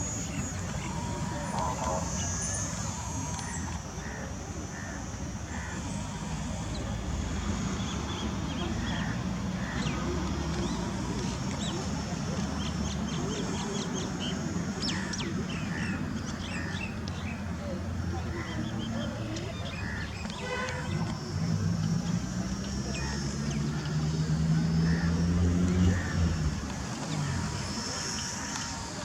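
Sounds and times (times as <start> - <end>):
birds chirping: 0.0 - 29.0
faint high whine: 0.0 - 29.0.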